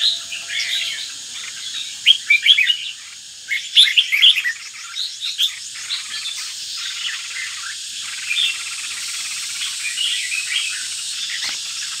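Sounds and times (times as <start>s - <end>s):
bird chirping and singing: 0.0s - 12.0s
steady high-pitched buzz: 0.0s - 12.0s.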